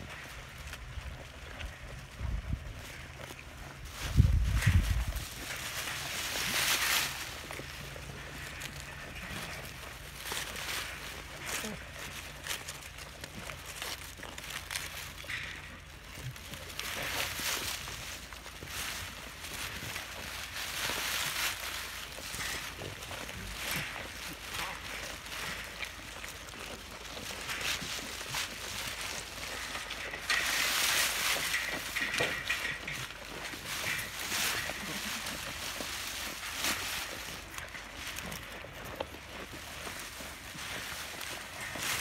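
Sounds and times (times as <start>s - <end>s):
goats chewing stalks: 0.0s - 42.0s
stems rustling: 0.0s - 42.0s.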